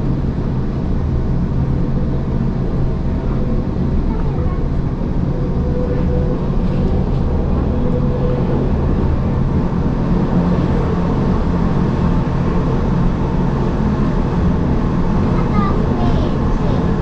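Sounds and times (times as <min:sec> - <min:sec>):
train rumbling from inside: 0:00.0 - 0:17.0.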